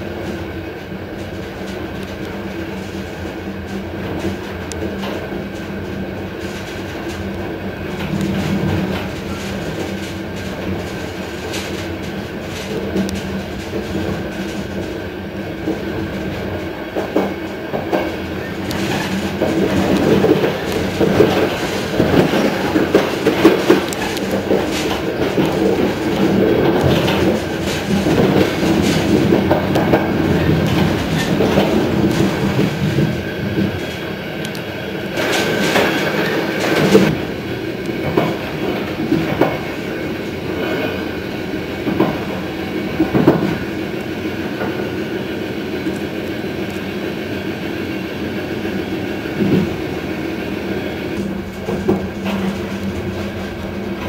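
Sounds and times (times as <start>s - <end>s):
wheels clattering over rail joints: 0.0s - 47.4s, 48.3s - 54.0s
train running hum: 0.0s - 54.0s.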